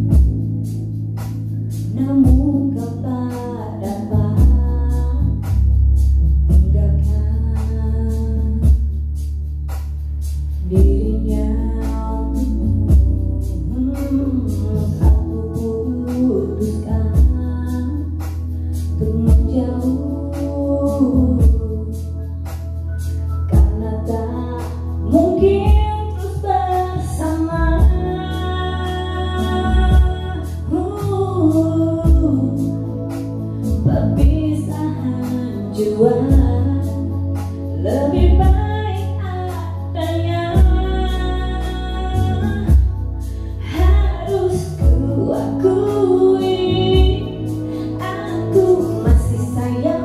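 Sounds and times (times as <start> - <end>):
instrumental backing with beat: 0.0 - 50.0
woman singing: 1.9 - 5.6, 6.5 - 8.9, 10.6 - 22.3, 23.5 - 50.0.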